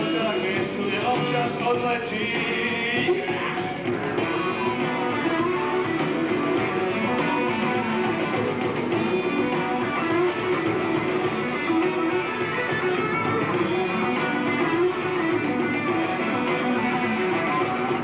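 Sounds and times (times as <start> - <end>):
bass guitar: 0.0 - 18.0
electric guitar: 0.0 - 18.0
steady drum beat: 0.0 - 18.0.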